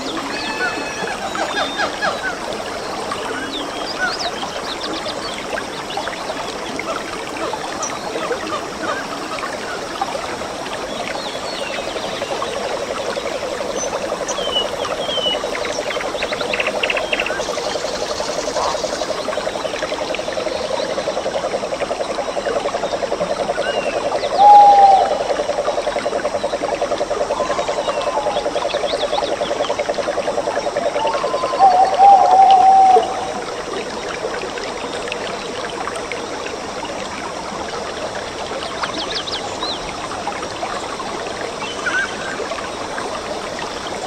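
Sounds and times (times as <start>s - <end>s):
stream trickling and splashing: 0.0s - 44.0s.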